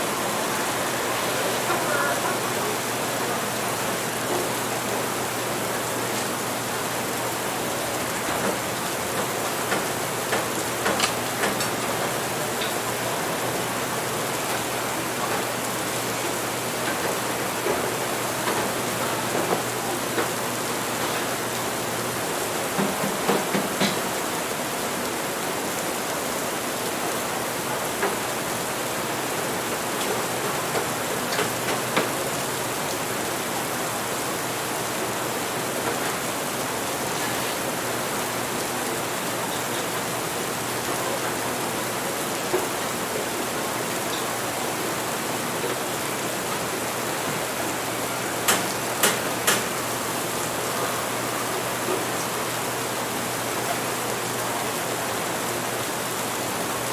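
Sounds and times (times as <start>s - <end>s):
rain hiss: 0.0s - 56.9s.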